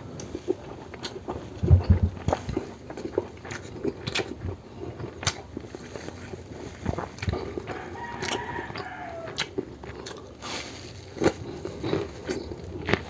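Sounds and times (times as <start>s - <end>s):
chewing and biting: 0.2s - 13.0s.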